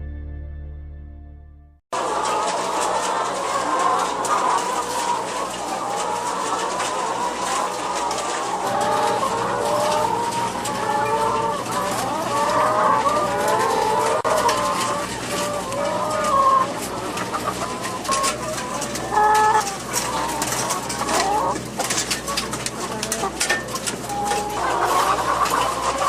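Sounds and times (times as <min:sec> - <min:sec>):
chickens calling: 0:02.0 - 0:26.0.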